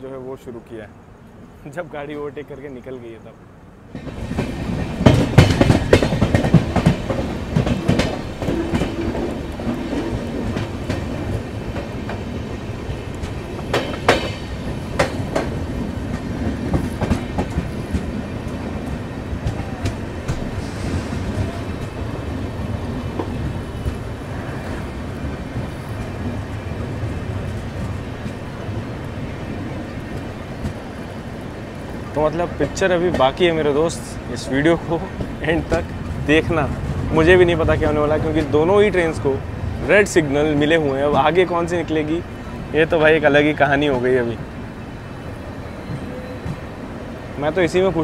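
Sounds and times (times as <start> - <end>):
train wheels rumbling on rails: 3.8 - 48.0.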